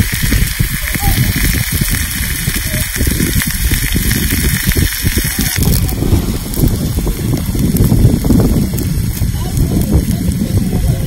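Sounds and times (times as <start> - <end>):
fire crackling: 0.0 - 11.0
steak sizzling on hot stone: 0.0 - 11.0
wind rumble on microphone: 0.0 - 11.0.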